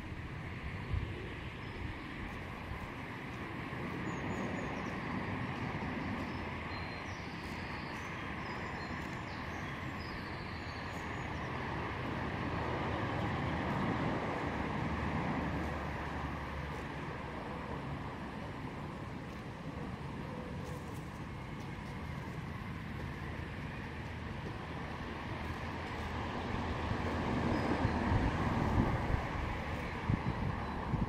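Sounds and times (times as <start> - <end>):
distant traffic rush: 0.0 - 31.0.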